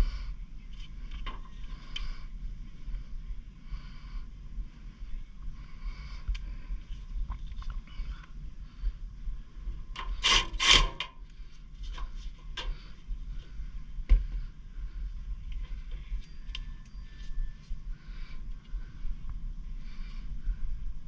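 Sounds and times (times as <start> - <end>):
low rumble: 0.0 - 10.3, 11.2 - 21.0.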